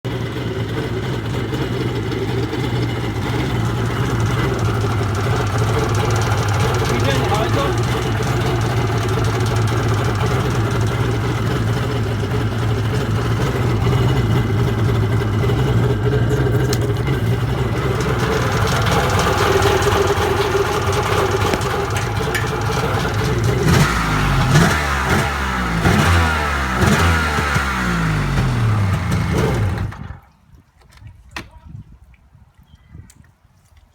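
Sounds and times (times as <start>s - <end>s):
jet ski engine idling and revving: 0.0s - 30.3s.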